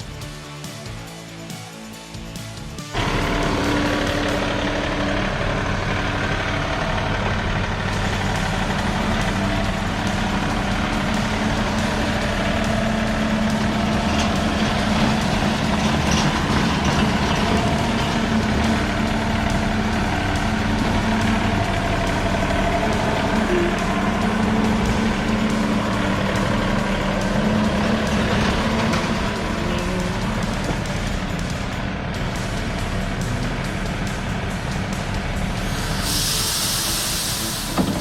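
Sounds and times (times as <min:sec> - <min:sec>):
heavy engine drone: 0:02.4 - 0:38.0.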